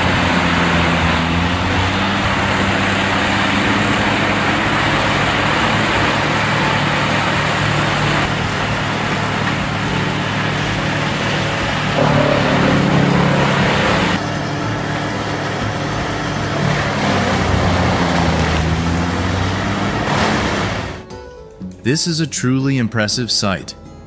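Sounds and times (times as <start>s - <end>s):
wood chipper chewing branches: 0.0s - 21.0s
diesel engine droning: 0.0s - 21.1s.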